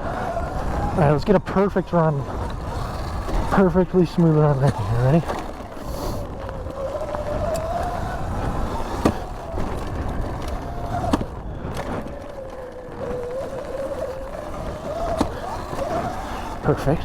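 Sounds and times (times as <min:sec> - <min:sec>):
electric dirt bike motor whine: 0:00.0 - 0:17.0.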